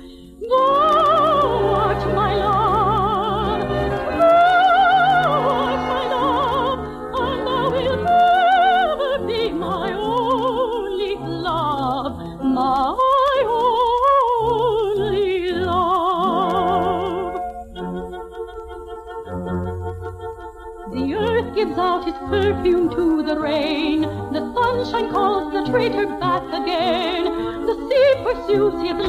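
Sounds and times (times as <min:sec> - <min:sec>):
operatic voice singing: 0:00.4 - 0:29.0
orchestra: 0:00.4 - 0:29.0.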